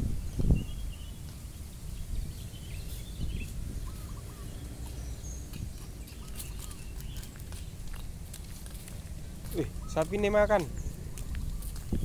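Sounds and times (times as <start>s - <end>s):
birds chirping faintly: 0.0s - 12.0s
steady low rumble: 0.0s - 12.0s
dry leaves crackling: 1.1s - 12.0s.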